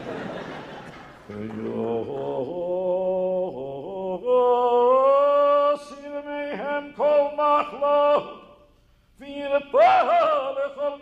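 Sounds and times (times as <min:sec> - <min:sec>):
man singing chant: 0:01.3 - 0:08.6, 0:09.2 - 0:11.0.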